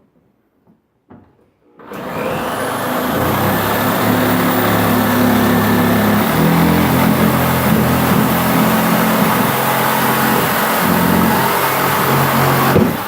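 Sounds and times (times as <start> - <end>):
motor running with whine: 2.0 - 13.0.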